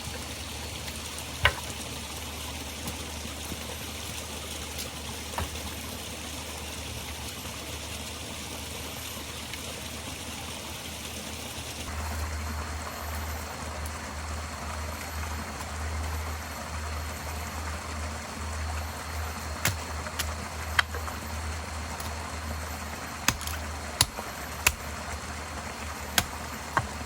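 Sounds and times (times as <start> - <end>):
stream flowing over rocks: 0.0 - 27.0.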